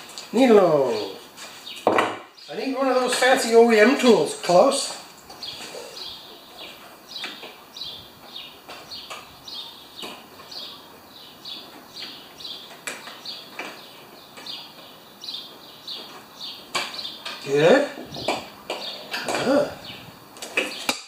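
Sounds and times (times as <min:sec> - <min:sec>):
small bird chirping: 0:03.9 - 0:21.0.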